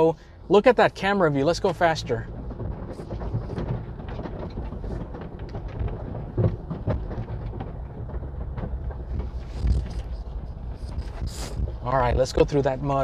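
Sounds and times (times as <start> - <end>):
car cabin rumble: 0.0 - 13.0
knocks and rattles over bumps: 0.0 - 13.0.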